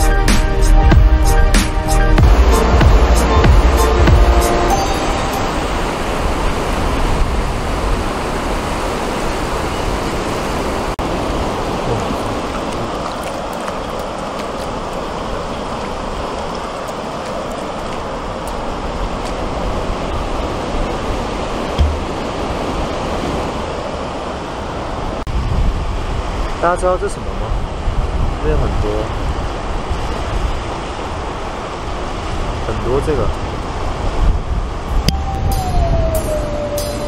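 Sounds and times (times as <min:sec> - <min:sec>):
sea waves breaking on shore: 0:01.7 - 0:37.0.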